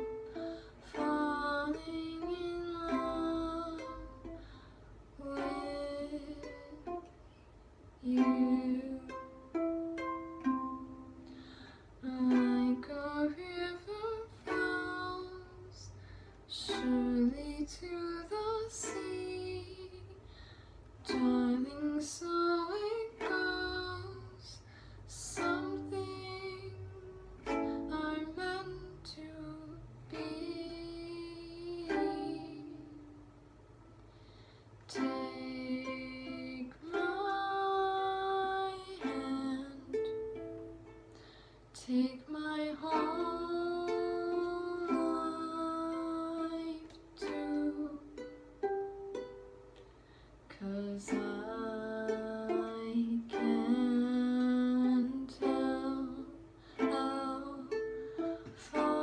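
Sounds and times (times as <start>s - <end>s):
ukulele strummed in chords: 0.0s - 7.2s, 8.0s - 20.1s, 21.0s - 33.4s, 34.9s - 49.9s, 50.6s - 59.0s
girl singing: 0.0s - 7.3s, 8.0s - 33.4s, 34.8s - 49.5s, 50.5s - 59.0s.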